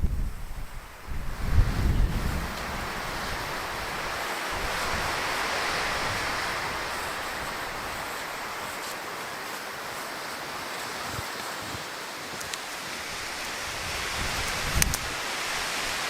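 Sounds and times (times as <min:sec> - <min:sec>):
wind gusting: 0:00.0 - 0:16.0.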